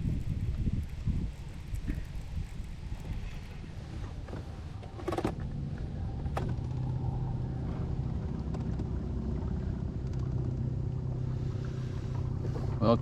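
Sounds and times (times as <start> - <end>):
boat motor humming: 0.2 - 13.0.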